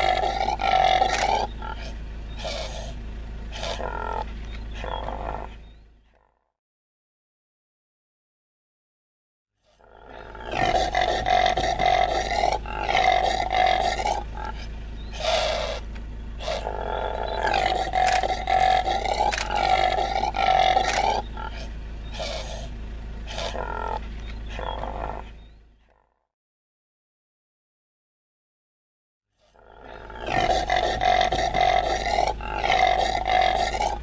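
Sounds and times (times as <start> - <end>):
impala calling: 0.0 - 6.4, 9.7 - 26.1, 29.5 - 34.0.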